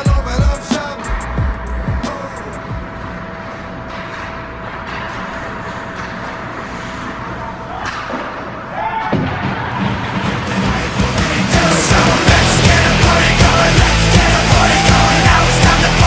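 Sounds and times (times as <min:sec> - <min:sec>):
ice rink arena noise: 0:00.0 - 0:16.0.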